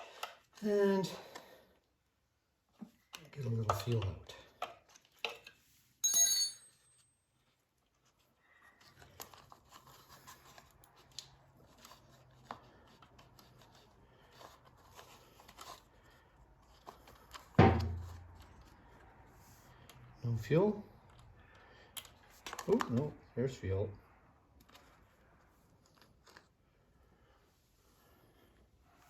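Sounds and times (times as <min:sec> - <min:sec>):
faint clicks and handling noises: 0:00.0 - 0:05.7, 0:07.3 - 0:29.0.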